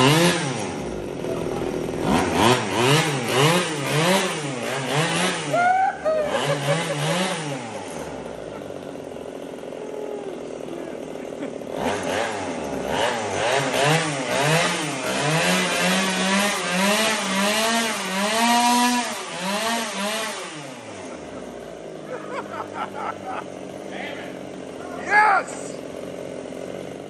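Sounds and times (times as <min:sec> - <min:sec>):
small engine revving: 0:00.0 - 0:27.0.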